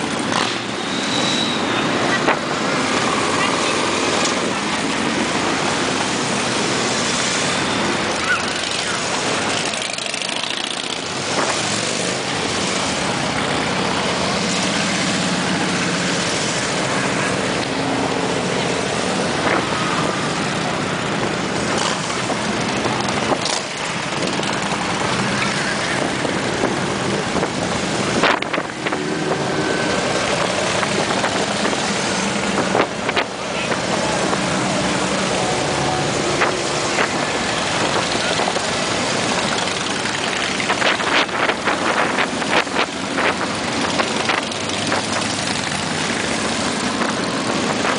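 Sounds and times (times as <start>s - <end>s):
motorcycles passing: 0.0s - 47.9s.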